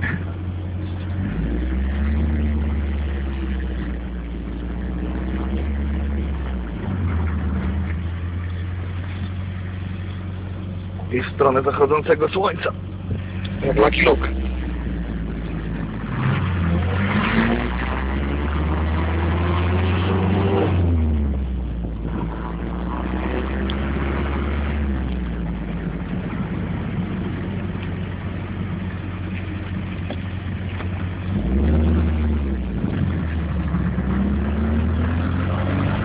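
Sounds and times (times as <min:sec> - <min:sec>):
car engine while driving: 0:00.0 - 0:36.0.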